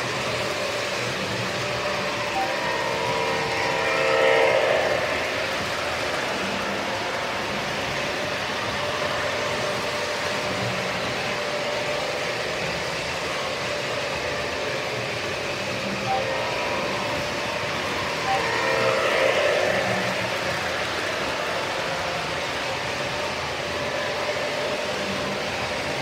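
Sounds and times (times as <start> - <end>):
model trains rolling on track: 0.0 - 26.0.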